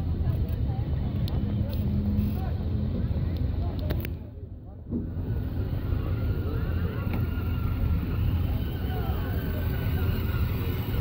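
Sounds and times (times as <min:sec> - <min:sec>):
distant voices: 0:00.0 - 0:11.0.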